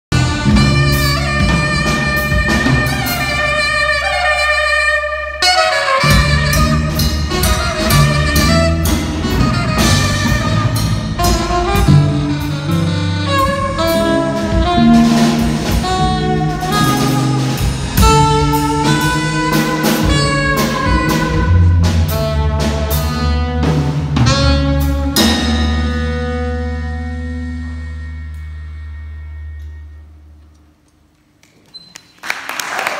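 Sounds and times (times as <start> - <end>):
drum kit: 0.1 - 30.5
saxophone melody: 0.1 - 30.6
low bass line: 0.1 - 31.1.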